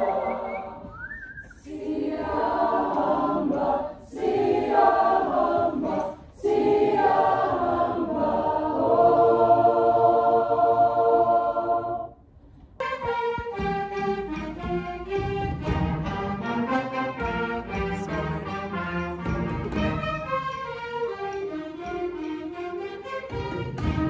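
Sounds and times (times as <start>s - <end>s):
choir singing unaccompanied: 0.0s - 12.2s, 12.8s - 24.0s.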